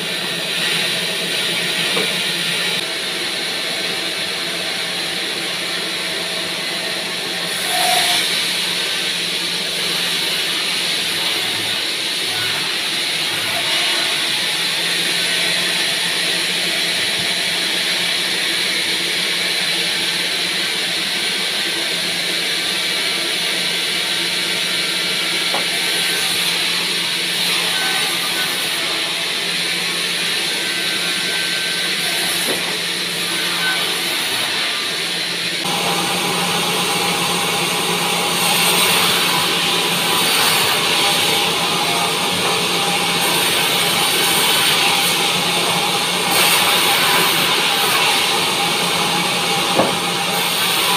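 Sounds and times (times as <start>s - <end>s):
band sawmill running: 0.0s - 50.9s.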